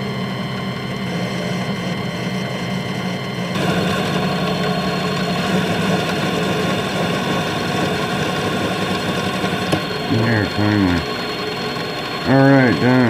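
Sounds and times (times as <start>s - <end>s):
metal lathe cutting: 0.0s - 13.0s.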